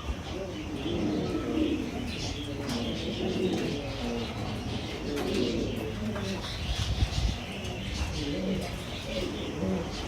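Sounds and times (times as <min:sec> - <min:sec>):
pigeons cooing: 0:00.0 - 0:10.0
small birds chirping: 0:00.0 - 0:10.0.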